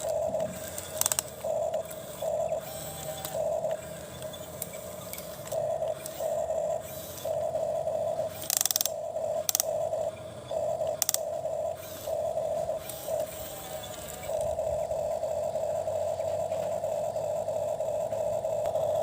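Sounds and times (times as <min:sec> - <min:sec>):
toy electric motor whirring: 0:00.0 - 0:19.0.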